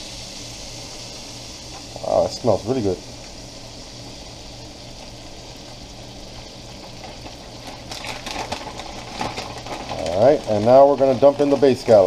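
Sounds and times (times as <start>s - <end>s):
butter sizzling in a pan: 0.0s - 12.0s.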